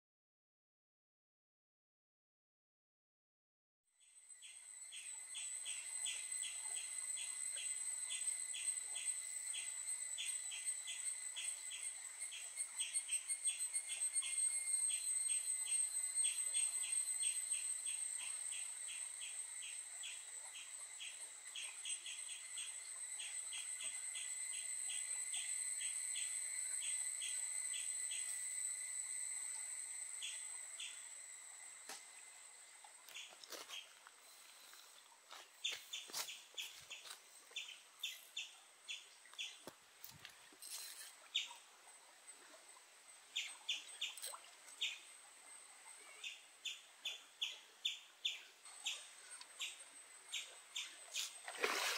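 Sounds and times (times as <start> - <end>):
high-pitched insect drone: 4.0 - 51.9.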